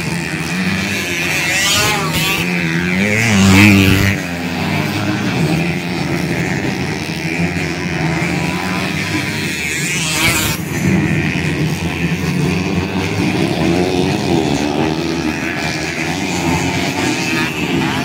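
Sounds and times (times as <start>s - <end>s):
racing motorcycles revving: 0.0s - 18.0s.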